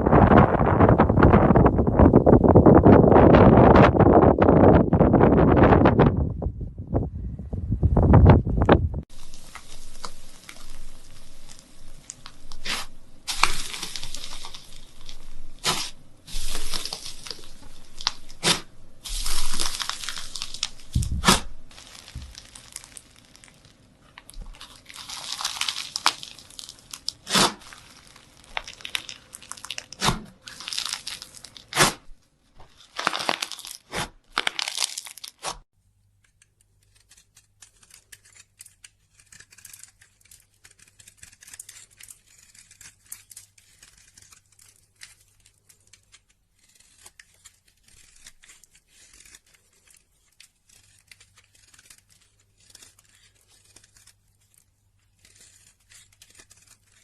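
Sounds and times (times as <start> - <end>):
tearing and crinkling: 9.1 - 57.0.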